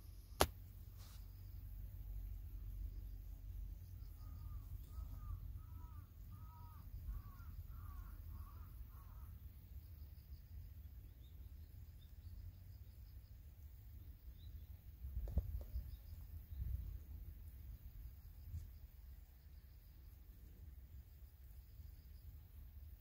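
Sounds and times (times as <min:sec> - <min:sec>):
steady low rumble: 0:00.0 - 0:21.6.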